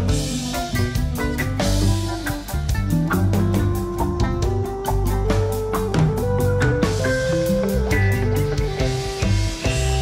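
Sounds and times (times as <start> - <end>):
instrumental song with guitar: 0.0 - 10.0
steady drum beat: 0.0 - 10.0.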